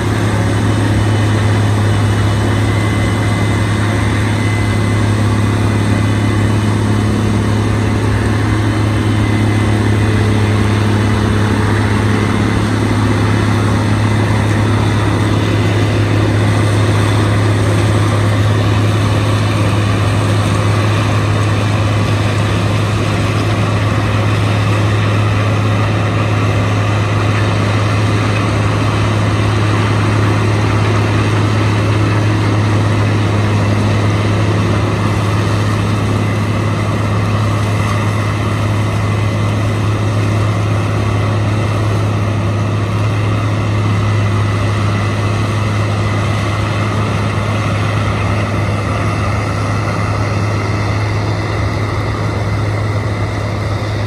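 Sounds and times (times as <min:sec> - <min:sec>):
diesel engines droning: 0:00.0 - 0:54.0.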